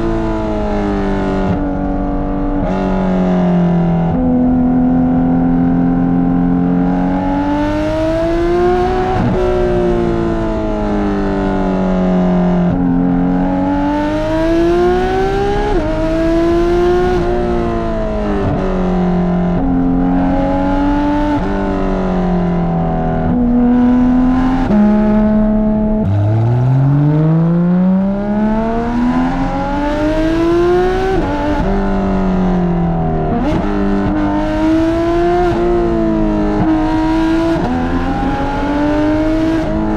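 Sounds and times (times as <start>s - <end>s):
sports car accelerating through gears: 0.0s - 39.9s.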